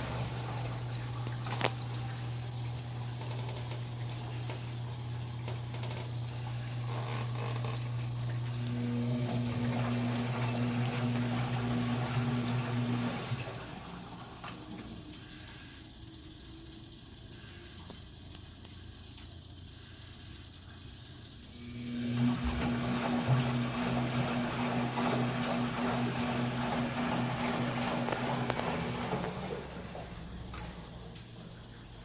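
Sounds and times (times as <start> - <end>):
moving water: 0.0 - 15.8, 19.8 - 32.0
washing machine hum: 0.0 - 32.0.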